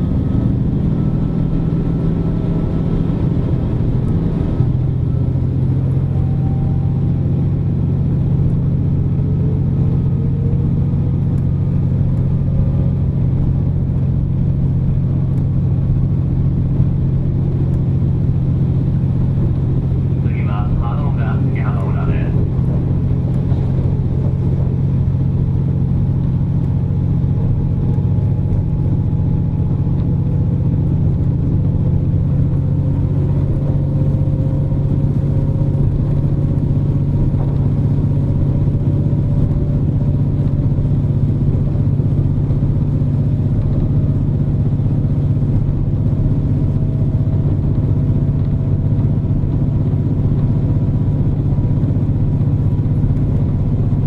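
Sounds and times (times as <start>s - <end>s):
diesel railcar engine rumble: 0.0s - 54.0s.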